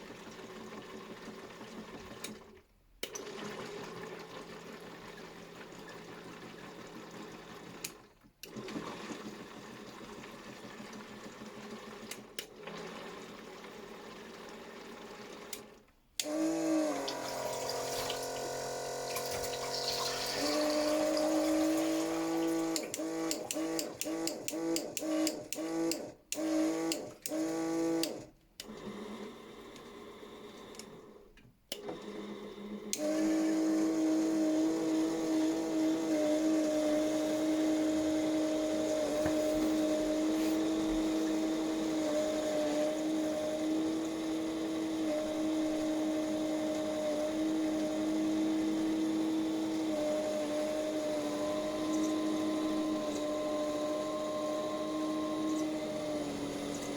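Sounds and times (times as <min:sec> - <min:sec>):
washing machine spinning: 0:00.0 - 0:28.2, 0:31.8 - 0:56.9.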